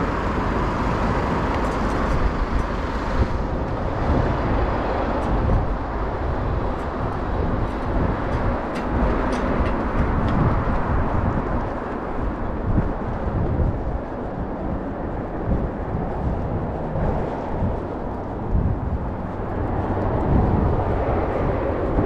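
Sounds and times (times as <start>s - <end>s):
steady city traffic: 0.0s - 22.0s.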